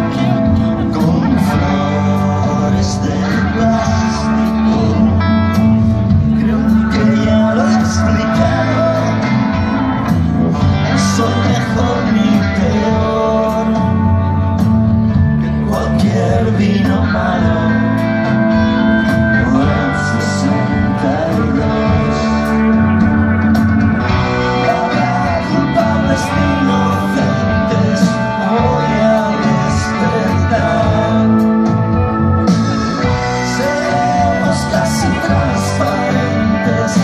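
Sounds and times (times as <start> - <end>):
rock band playing: 0.0 - 37.0.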